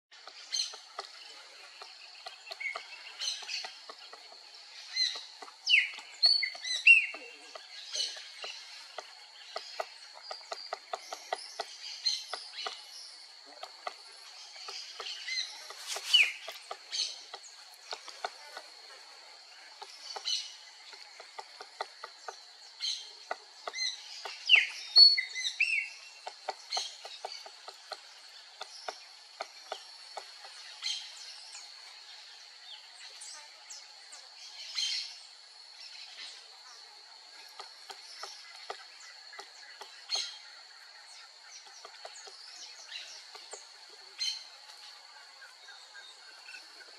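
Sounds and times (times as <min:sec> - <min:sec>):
birds chirping: 0:00.1 - 0:46.9
woodpecker tapping bark: 0:00.2 - 0:31.2, 0:37.0 - 0:44.6.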